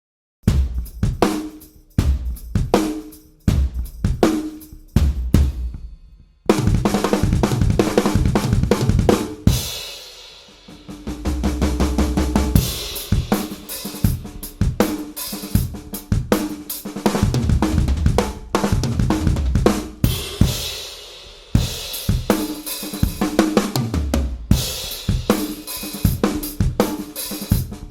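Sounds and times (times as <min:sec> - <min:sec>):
drum kit playing: 0:00.4 - 0:27.9.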